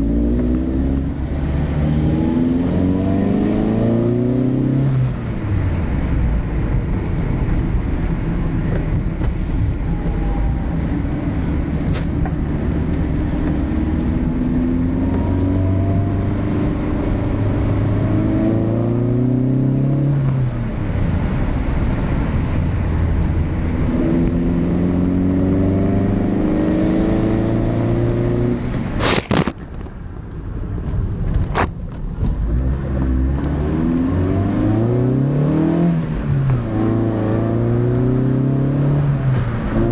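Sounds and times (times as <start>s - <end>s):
car engine accelerating: 0.0s - 29.8s, 30.4s - 39.9s.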